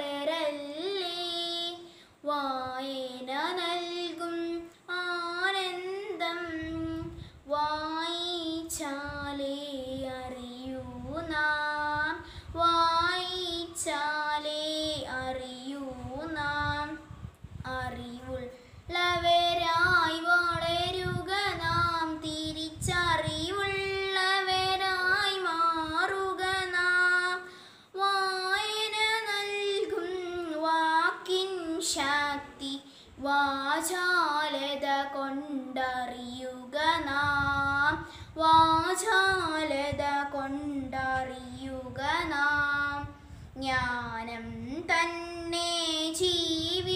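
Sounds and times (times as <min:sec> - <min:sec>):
girl singing unaccompanied: 0:00.0 - 0:46.9.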